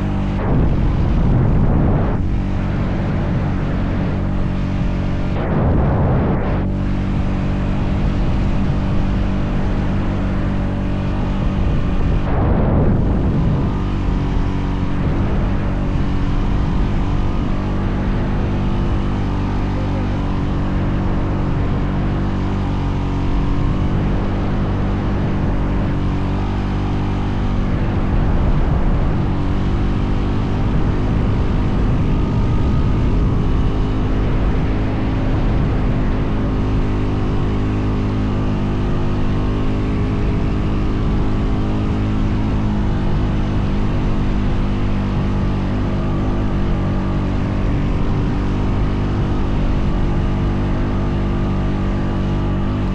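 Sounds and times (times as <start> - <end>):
atv engine running under load: 0.0 - 52.9.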